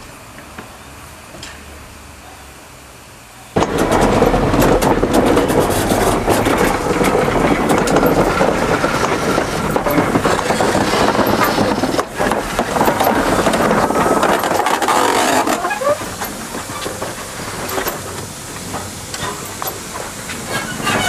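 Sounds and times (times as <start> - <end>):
steam locomotive passing: 0.0 - 21.0
wheels clanking and knocking: 3.6 - 21.0.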